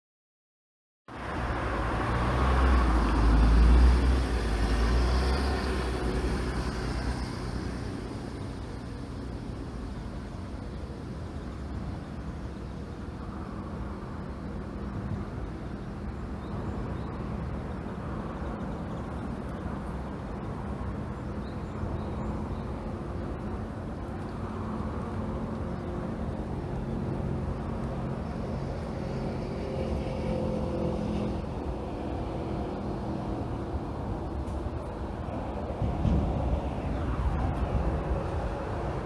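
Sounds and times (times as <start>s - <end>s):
engine rumbling: 1.1s - 39.0s.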